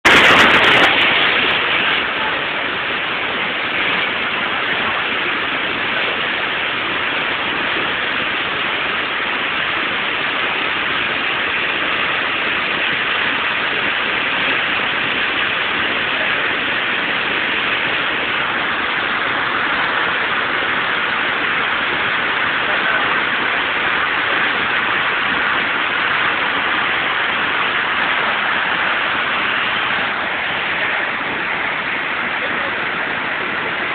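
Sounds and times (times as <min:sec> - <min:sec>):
flood river rushing: 0:00.0 - 0:33.9.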